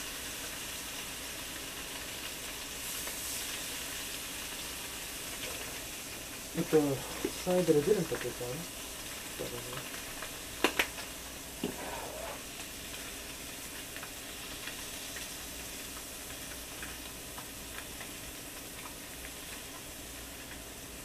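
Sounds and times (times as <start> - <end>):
fish sizzling in a pan: 0.0 - 21.0.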